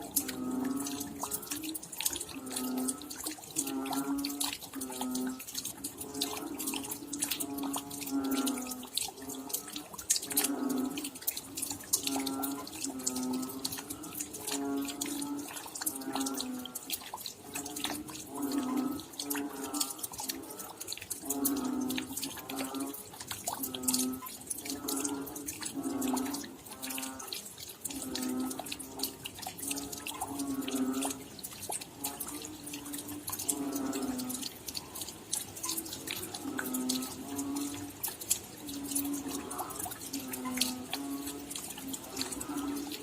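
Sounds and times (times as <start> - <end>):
rain dripping and pattering: 0.0 - 43.0.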